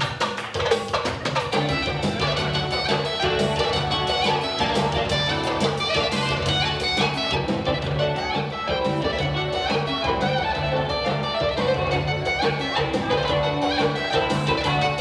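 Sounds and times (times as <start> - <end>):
live band dance music: 0.0 - 15.0
bass beat: 1.5 - 15.0.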